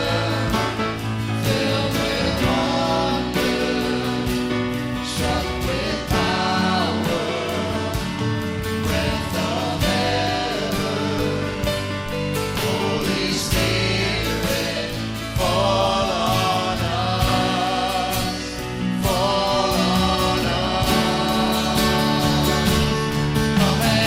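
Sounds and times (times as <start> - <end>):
band accompaniment with beat: 0.0 - 24.0
choir singing gospel song: 0.0 - 24.0.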